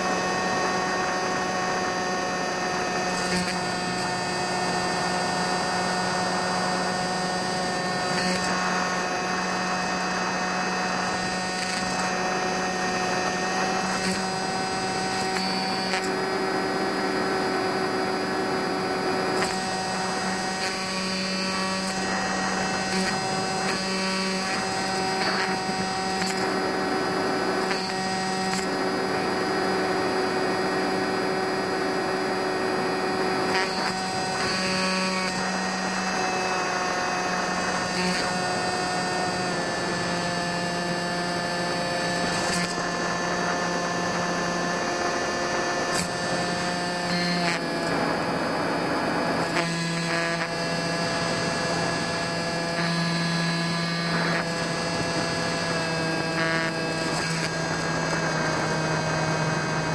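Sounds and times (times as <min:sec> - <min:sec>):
electric motor propeller drone: 0:00.0 - 0:59.9.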